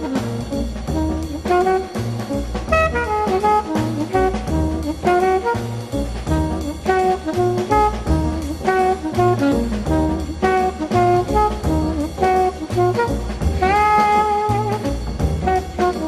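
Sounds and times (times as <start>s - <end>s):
background jazz music: 0.0s - 16.0s.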